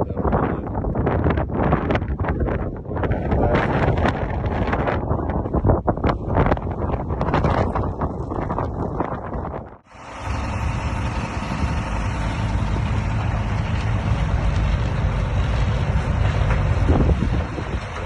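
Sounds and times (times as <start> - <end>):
road noise: 0.8 - 18.0
vehicle engine drone: 0.8 - 18.0.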